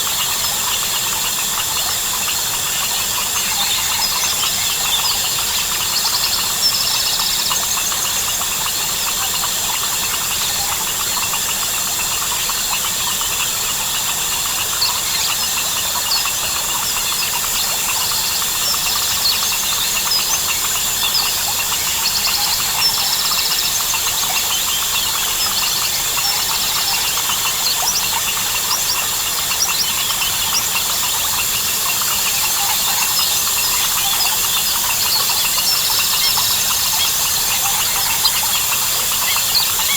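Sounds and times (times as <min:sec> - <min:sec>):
crickets chirping: 0:00.0 - 0:39.9
frogs calling: 0:00.0 - 0:39.9
high-pitched insect drone: 0:00.0 - 0:39.9.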